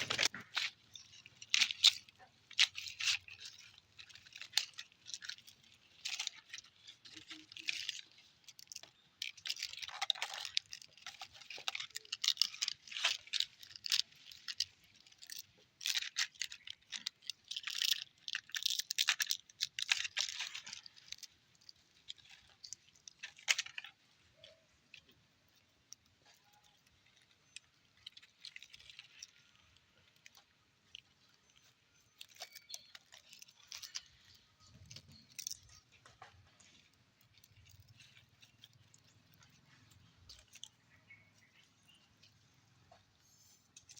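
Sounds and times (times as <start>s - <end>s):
puppies chewing and crunching: 0.0s - 43.9s.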